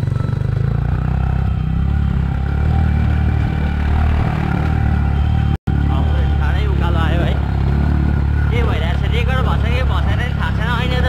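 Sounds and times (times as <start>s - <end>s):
motorcycle engine at low speed: 0.0s - 11.0s.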